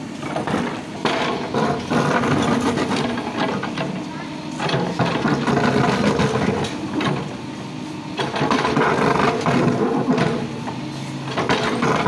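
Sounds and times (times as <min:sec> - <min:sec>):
diesel engine under hydraulic load: 0:00.0 - 0:12.0.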